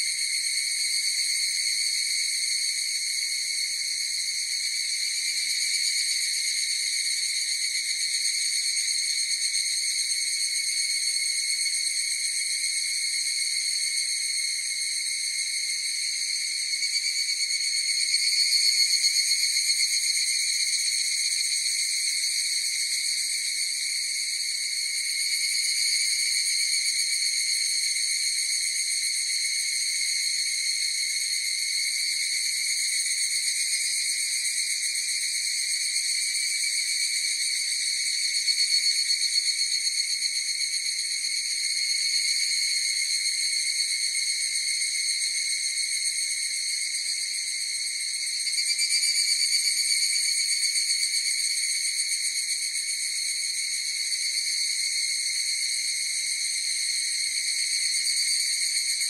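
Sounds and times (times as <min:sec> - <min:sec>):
cicadas ringing drone: 0:00.0 - 0:59.0.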